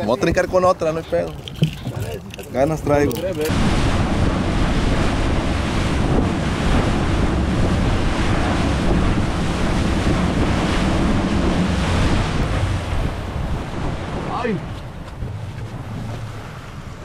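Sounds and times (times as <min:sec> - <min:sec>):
sea water rushing: 0:00.0 - 0:17.0
wind buffeting microphone: 0:00.0 - 0:17.0.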